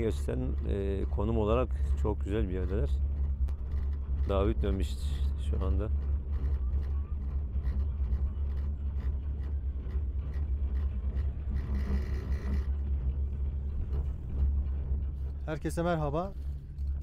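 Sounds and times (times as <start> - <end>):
chairlift low rumble: 0.0 - 17.0
faint rattle: 0.0 - 17.0.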